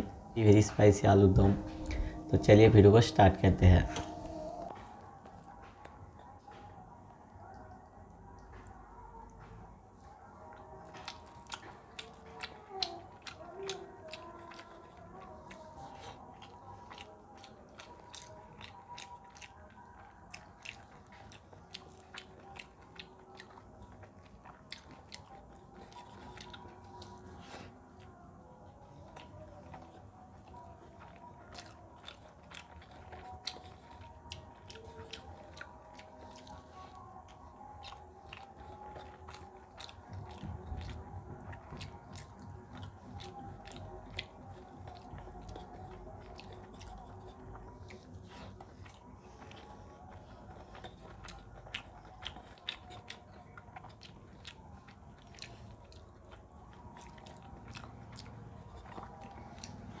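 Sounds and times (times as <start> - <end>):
chewing and mouth smacks: 0.0 - 60.0.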